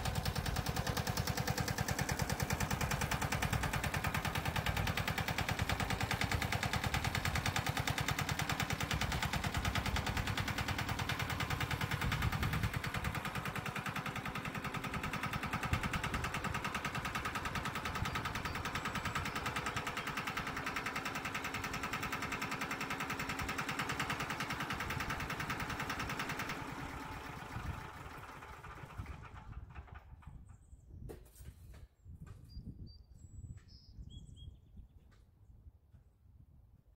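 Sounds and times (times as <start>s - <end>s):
diesel engine running: 0.0s - 30.3s.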